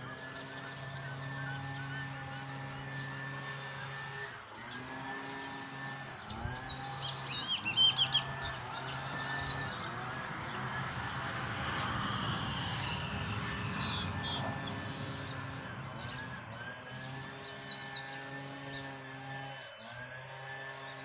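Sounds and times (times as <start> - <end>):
steady low hum: 0.0 - 19.6
bird trill: 0.0 - 21.0
small birds chirping: 0.0 - 21.0.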